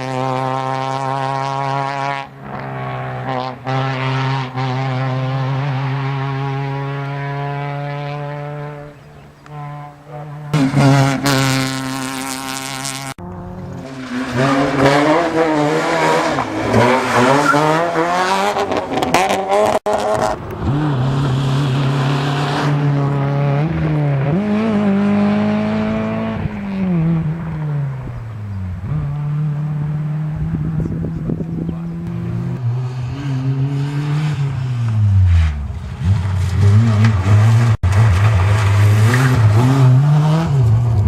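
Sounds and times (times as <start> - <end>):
rally car engines revving: 0.0 - 41.0.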